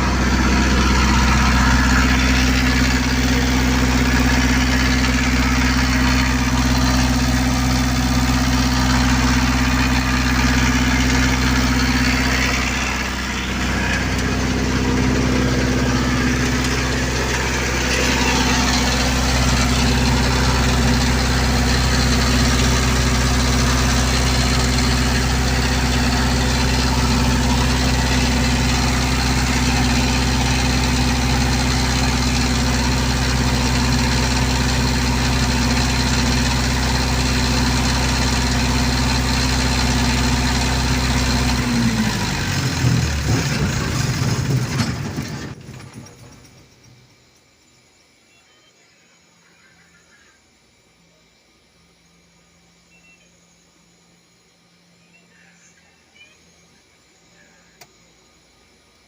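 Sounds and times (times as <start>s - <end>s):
generator engine running: 0.0s - 47.3s.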